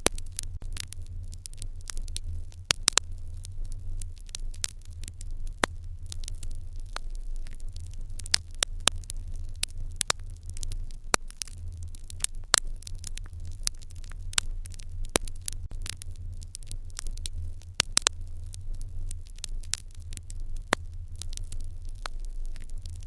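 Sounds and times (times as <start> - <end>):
fire crackling and popping: 0.0 - 23.0
low rumble: 0.0 - 23.0.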